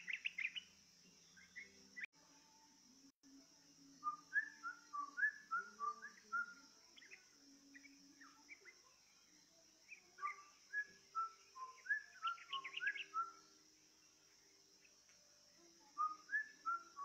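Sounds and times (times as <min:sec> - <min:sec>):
bird whistled song: 0:00.0 - 0:02.1, 0:04.0 - 0:15.0, 0:15.6 - 0:17.0
steady high hiss: 0:00.0 - 0:17.0.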